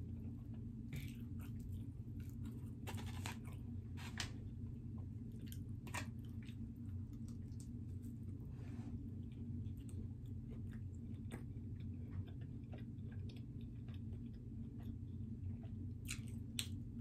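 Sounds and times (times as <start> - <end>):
chewing and crunching pizza: 0.0 - 17.0
low hum: 0.0 - 17.0.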